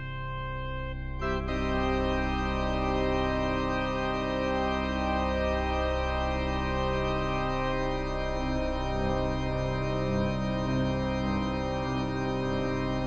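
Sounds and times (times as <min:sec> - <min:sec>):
organ chords: 0:00.0 - 0:13.0.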